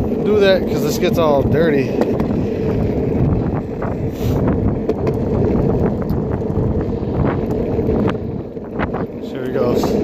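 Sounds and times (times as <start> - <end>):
longboard wheels rolling on asphalt: 0.0 - 10.0
wind buffeting microphone: 0.0 - 10.0.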